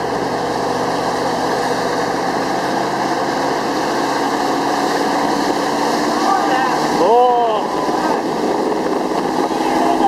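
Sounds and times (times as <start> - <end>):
hull rushing through water: 0.0 - 10.0
motorboat engine drone: 0.0 - 10.0.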